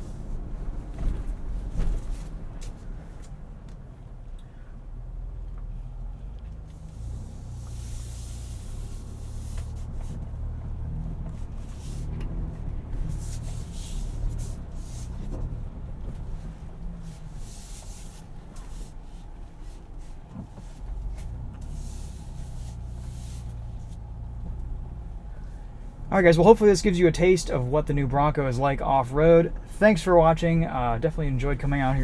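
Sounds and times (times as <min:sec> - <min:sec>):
engine low rumble from cabin: 0:00.0 - 0:32.0.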